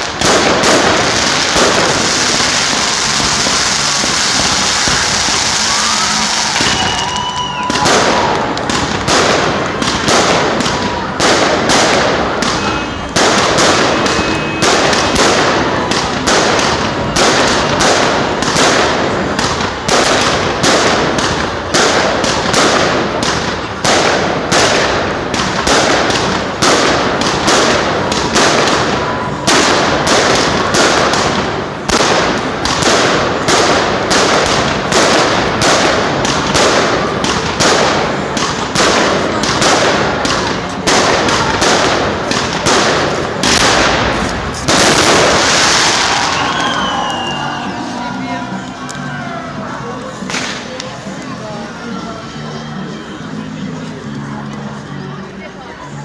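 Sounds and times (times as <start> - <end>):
fireworks bangs: 0.0 - 51.4.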